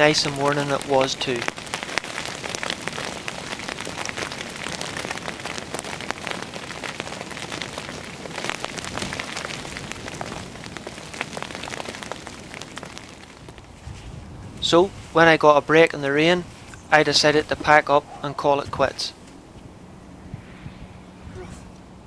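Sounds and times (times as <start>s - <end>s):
raindrops ticking close by: 0.0s - 19.6s
steady rain hiss: 0.0s - 22.0s.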